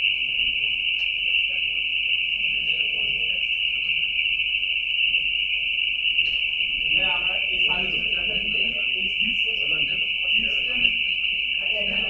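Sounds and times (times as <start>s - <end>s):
faint murmur of voices: 0.0s - 12.0s.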